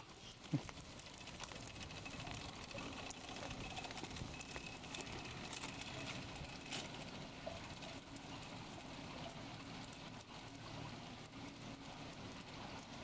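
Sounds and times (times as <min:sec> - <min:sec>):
stroller wheels rolling on concrete: 0:00.0 - 0:13.0.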